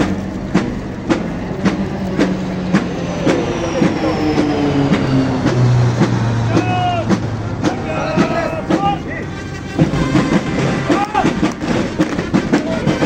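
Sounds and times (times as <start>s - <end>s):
aircraft flying over: 0.0s - 13.0s
marching drum beating: 0.0s - 13.0s.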